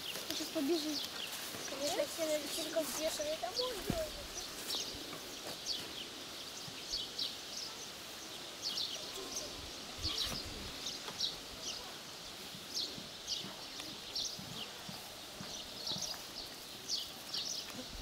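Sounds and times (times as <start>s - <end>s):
faint outdoor background: 0.0s - 18.0s
small birds chirping: 0.0s - 18.0s.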